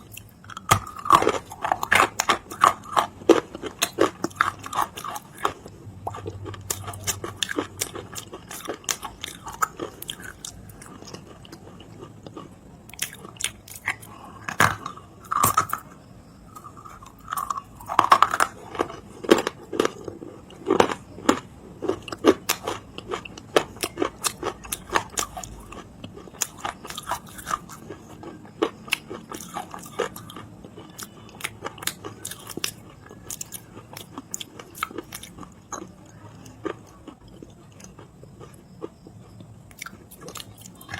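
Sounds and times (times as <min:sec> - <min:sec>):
chewing crunchy clay: 0:00.0 - 0:40.9.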